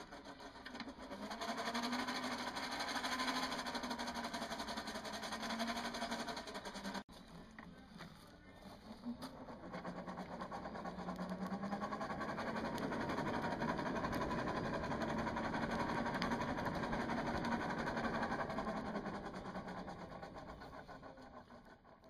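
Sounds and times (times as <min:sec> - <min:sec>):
forge air blower whirring: 0:00.0 - 0:07.1, 0:08.7 - 0:20.5.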